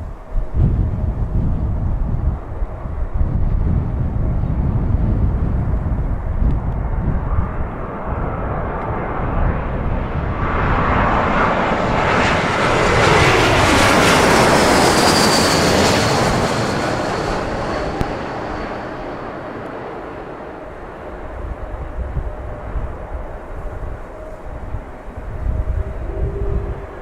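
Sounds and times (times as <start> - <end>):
jet airliner passing by: 0.0 - 27.0
wind rumble on microphone: 0.0 - 27.0.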